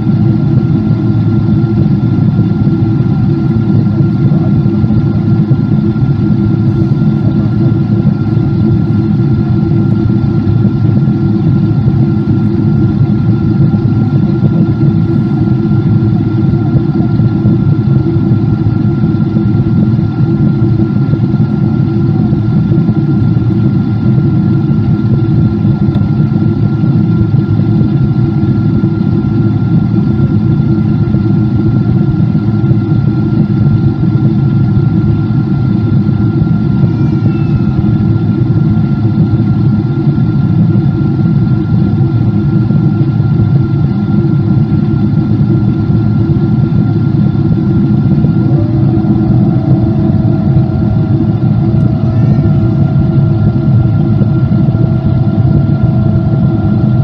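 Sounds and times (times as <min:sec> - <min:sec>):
jet engines droning in cabin: 0:00.0 - 0:57.0
thin steady whine: 0:00.0 - 0:57.0.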